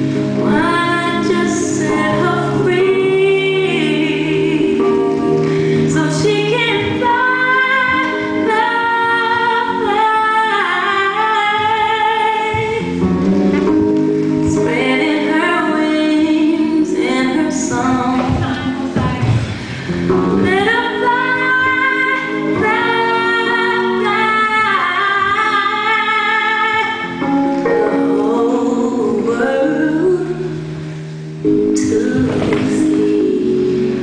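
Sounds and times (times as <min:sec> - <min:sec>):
woman singing slow song: 0:00.4 - 0:13.0, 0:14.4 - 0:19.4, 0:20.4 - 0:30.8, 0:31.5 - 0:34.0.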